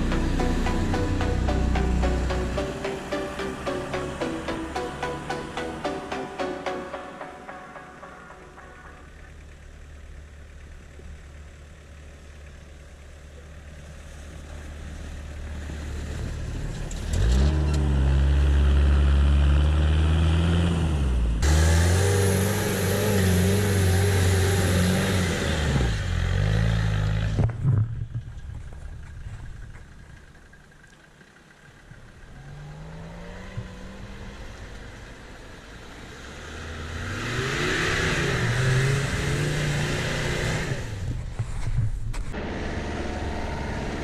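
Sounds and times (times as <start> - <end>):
truck engine revving: 0.0 - 9.6, 15.6 - 30.5, 32.2 - 41.4, 42.2 - 44.0.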